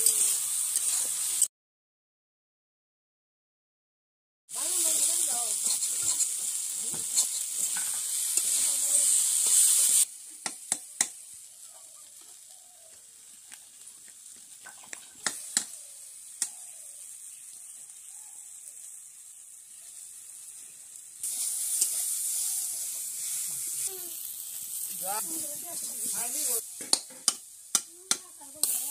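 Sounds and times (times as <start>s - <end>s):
vegetables sizzling in a pan: 0.0s - 1.5s, 4.5s - 28.9s.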